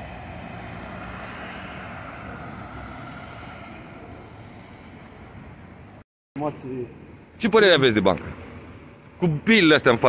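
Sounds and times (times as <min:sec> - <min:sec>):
traffic hum: 0:00.0 - 0:10.0.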